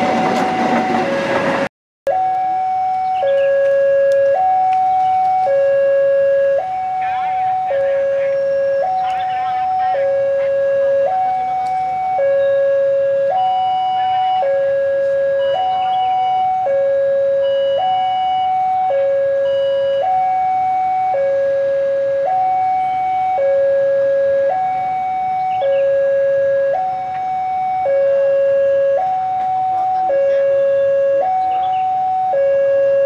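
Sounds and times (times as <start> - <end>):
two-tone level crossing alarm: 0.0 - 33.0.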